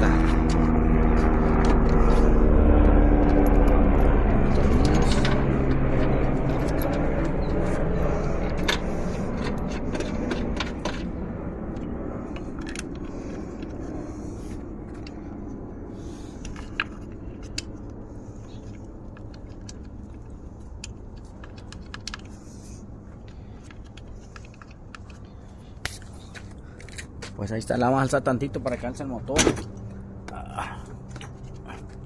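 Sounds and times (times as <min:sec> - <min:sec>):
vehicle engine hum: 0:00.0 - 0:32.0.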